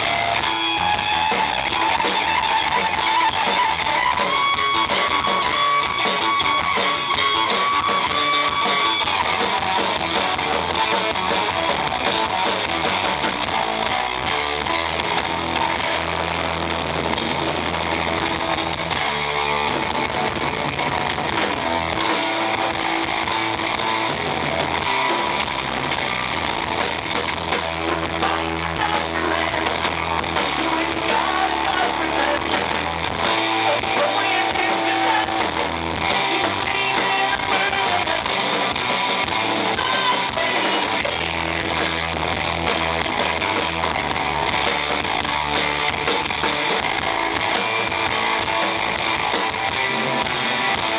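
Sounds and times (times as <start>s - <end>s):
band playing rock music: 0.0s - 50.9s.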